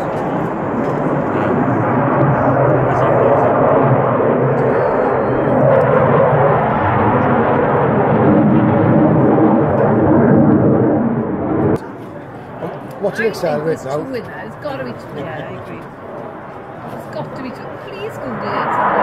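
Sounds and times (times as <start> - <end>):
aircraft passing overhead: 0.0 - 19.0.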